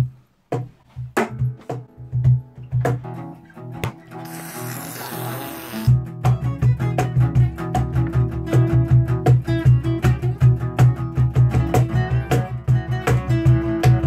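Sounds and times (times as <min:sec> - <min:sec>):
acoustic guitars strumming: 0:01.5 - 0:14.0.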